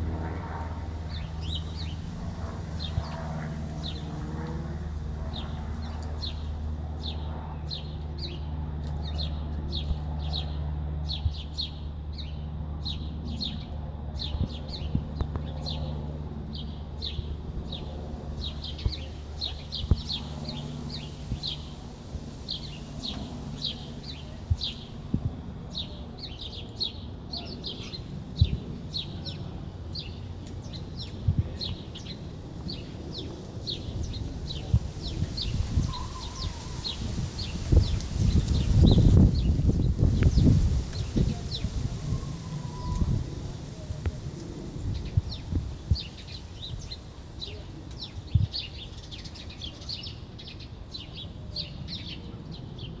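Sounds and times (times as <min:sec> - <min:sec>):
small birds chirping: 0:00.1 - 0:53.0.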